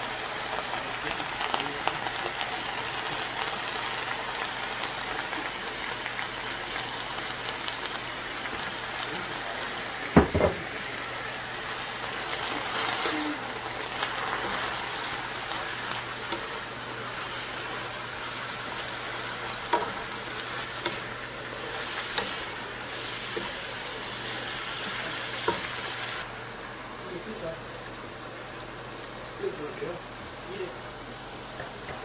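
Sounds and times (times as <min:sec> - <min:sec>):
vegetables sizzling in a wok: 0:00.0 - 0:32.0.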